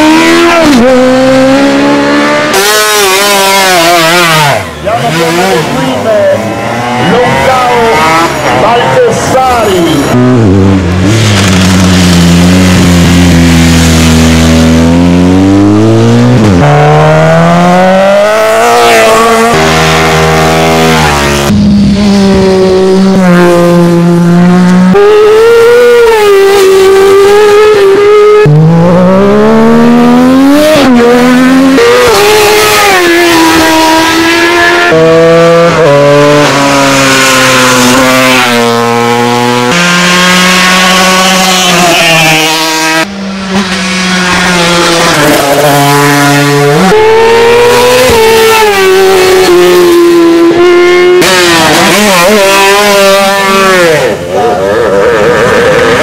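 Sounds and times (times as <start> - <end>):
racing motorcycles accelerating: 0.0 - 56.0.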